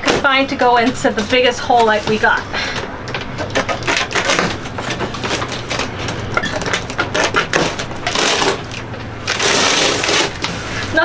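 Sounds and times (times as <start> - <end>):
packaging crackling and rustling: 0.0 - 11.0
scraping rasp: 0.0 - 11.0.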